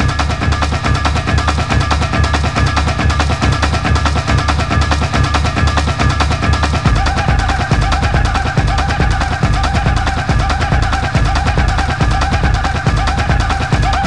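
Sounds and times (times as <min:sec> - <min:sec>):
hard techno music: 0:00.0 - 0:14.0.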